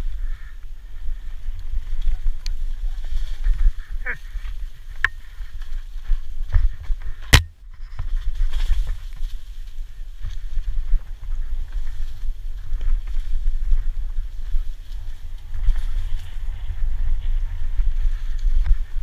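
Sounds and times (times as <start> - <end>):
bike rumble on dirt trail: 0.0 - 19.0
wind on microphone: 0.0 - 19.0.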